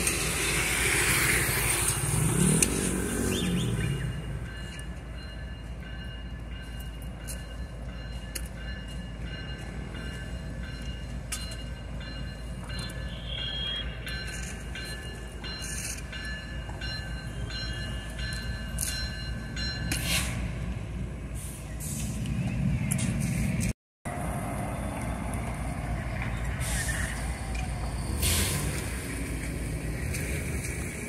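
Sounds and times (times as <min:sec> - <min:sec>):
locomotive engine rumbling: 0:00.0 - 0:31.0
wheels clicking and squeaking on rails: 0:00.0 - 0:31.0.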